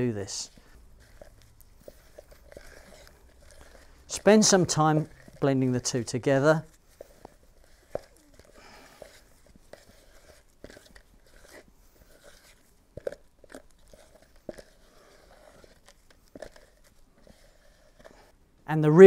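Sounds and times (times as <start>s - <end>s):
stick stirring stiff paste: 0.0s - 18.4s.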